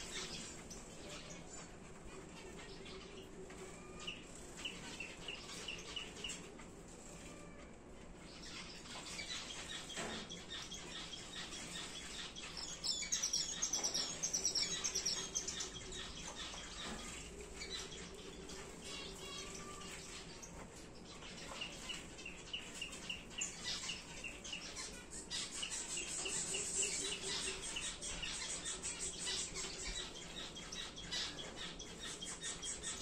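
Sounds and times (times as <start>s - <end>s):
finches chirping: 0.0s - 33.0s.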